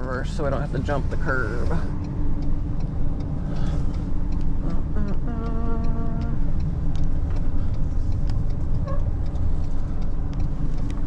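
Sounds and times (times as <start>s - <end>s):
truck engine rumbling: 0.0s - 11.0s
steady tone: 0.5s - 10.4s.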